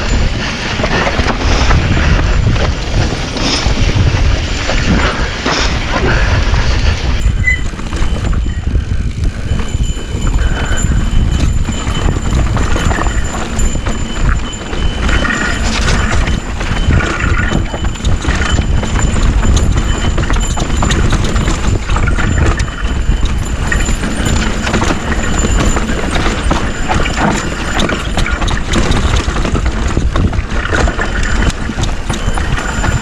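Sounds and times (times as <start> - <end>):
mountain bike rattling on rocks: 0.0 - 33.0
wind and terrain rumble: 0.0 - 33.0.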